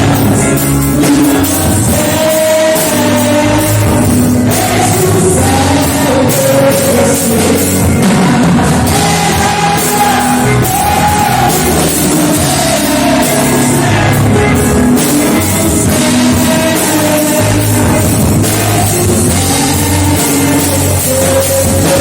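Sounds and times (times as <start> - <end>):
worship band with drums: 0.0 - 22.0.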